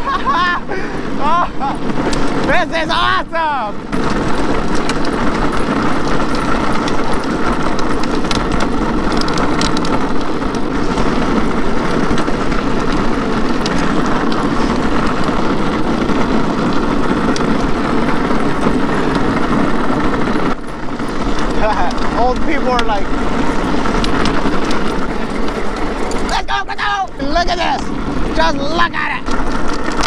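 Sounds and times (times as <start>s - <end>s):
wheels rolling on asphalt: 0.0s - 30.0s.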